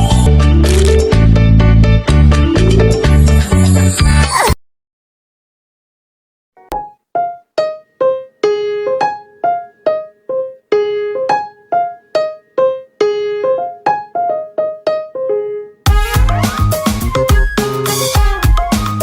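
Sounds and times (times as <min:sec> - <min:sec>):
keyboard melody: 0:00.0 - 0:04.0, 0:06.6 - 0:19.0.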